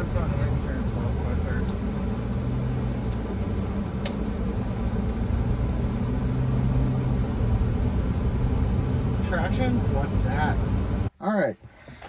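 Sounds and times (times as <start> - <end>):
car engine and tyres rumbling: 0.0 - 11.1.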